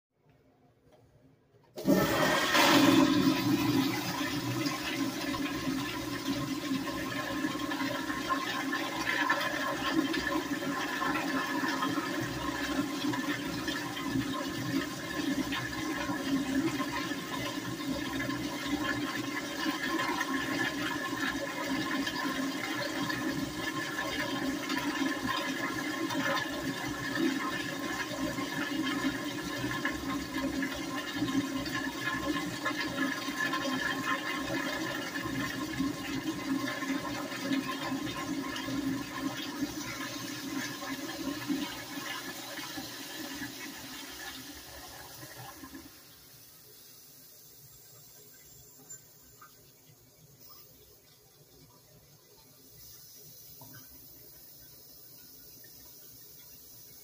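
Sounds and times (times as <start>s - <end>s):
toilet water streaming into bowl: 1.8s - 57.0s.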